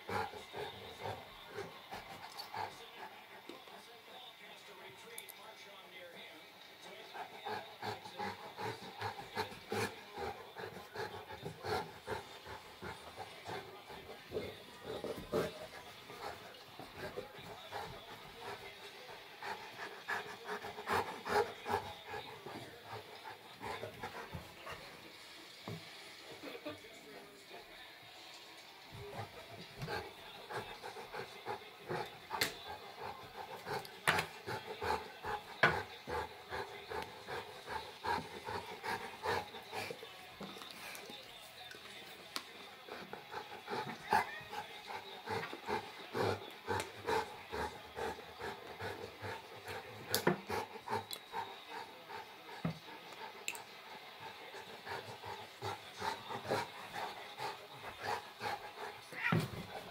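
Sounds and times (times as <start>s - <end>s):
dog panting: 0.0s - 27.8s, 28.9s - 59.9s.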